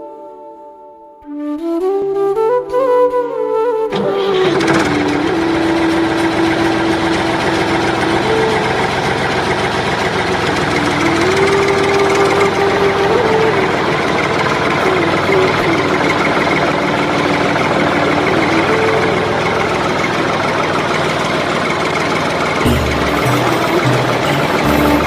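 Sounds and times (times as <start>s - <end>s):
small tractor motor whining: 3.9s - 25.0s.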